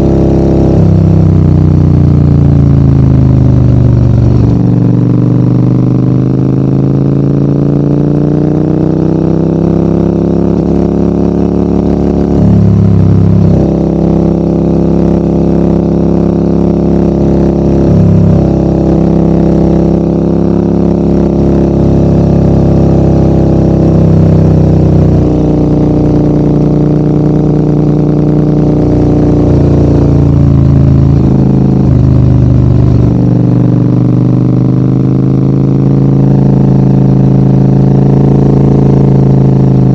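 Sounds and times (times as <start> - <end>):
motorcycle engine pulling uphill: 0.0 - 39.9.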